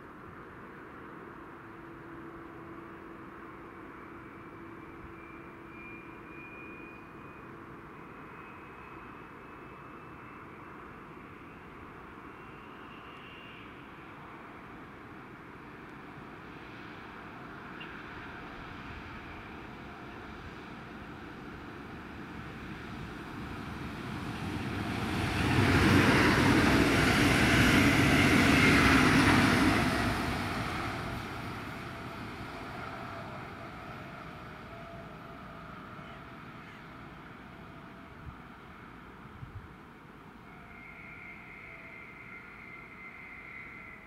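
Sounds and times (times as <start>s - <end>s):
electric train passing by: 0.0s - 44.0s.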